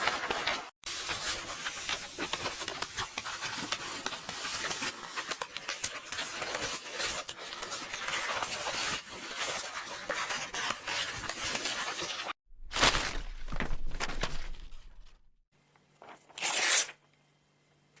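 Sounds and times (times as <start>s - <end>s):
book pages rustling: 0.0s - 15.2s.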